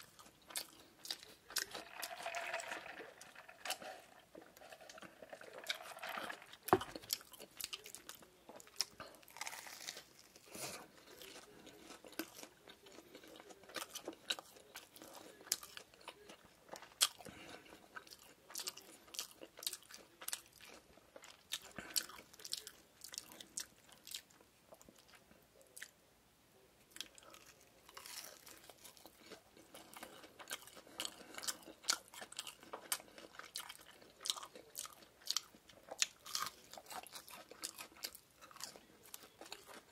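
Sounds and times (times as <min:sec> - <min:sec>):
crunchy burger chewing: 0:00.0 - 0:26.0, 0:26.9 - 0:39.9.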